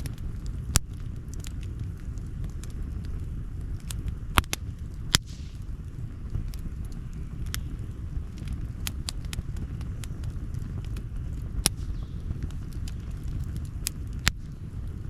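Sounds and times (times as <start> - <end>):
campfire crackling: 0.0 - 15.0
fire pops: 0.0 - 15.0.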